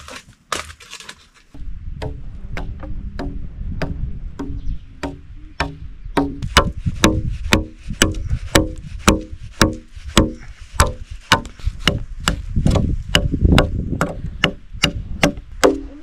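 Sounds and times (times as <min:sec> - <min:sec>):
chopping wood: 0:00.0 - 0:16.0.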